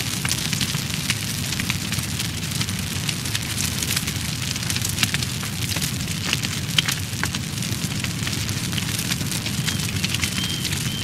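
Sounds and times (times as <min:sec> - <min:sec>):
fire crackling and popping: 0:00.0 - 0:11.0.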